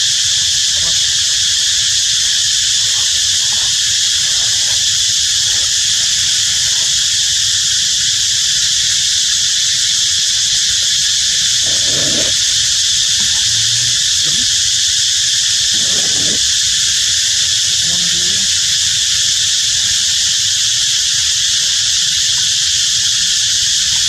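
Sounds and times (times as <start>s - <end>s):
insect chorus droning: 0.0s - 24.0s.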